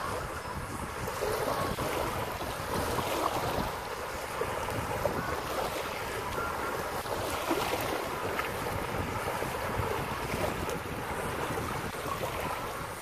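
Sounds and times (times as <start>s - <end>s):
waves washing onto beach: 0.0s - 13.0s
wind buffeting microphone: 0.0s - 13.0s.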